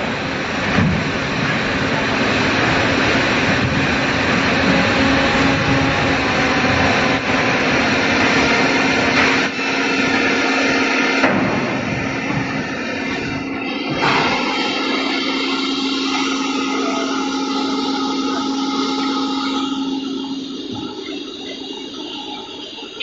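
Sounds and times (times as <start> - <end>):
production line machinery: 0.0 - 23.0
steady hum: 0.0 - 23.0.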